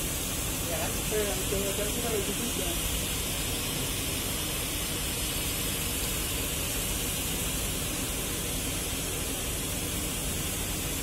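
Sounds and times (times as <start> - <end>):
even hiss: 0.0 - 11.0.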